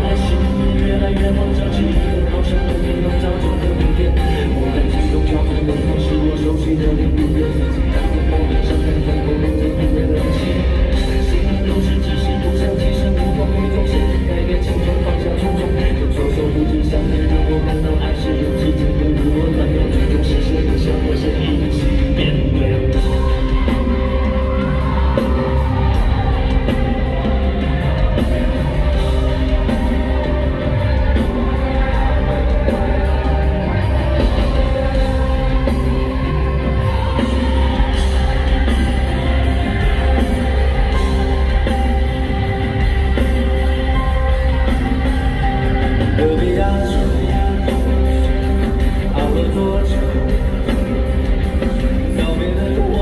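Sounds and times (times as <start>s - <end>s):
live rock band playing loudly: 0.0s - 53.0s
male lead vocal: 0.0s - 53.0s.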